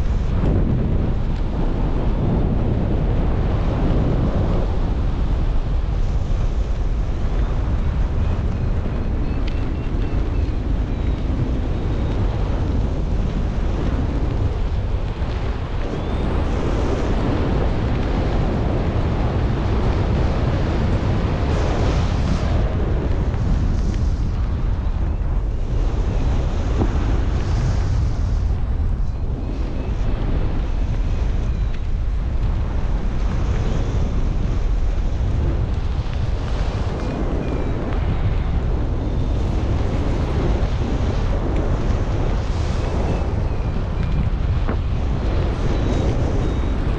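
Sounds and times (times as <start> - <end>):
wind rushing over microphone: 0.0 - 46.9.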